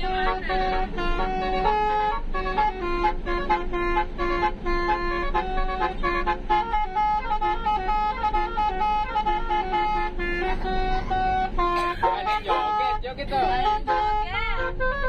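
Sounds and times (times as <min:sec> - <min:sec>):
multi-tone bus horn tune: 0:00.0 - 0:15.0.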